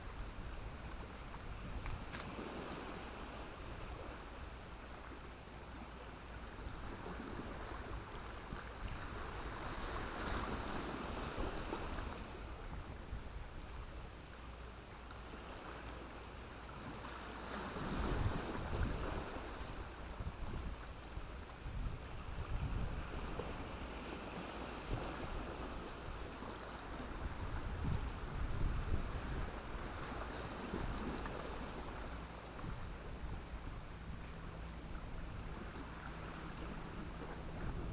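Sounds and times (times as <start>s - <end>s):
sea waves breaking on shore: 0.0s - 37.9s.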